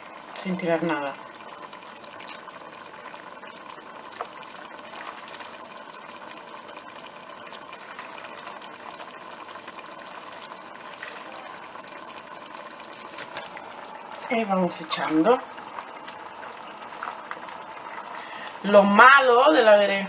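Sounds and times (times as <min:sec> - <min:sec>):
sauce bubbling and popping: 0:00.0 - 0:18.8.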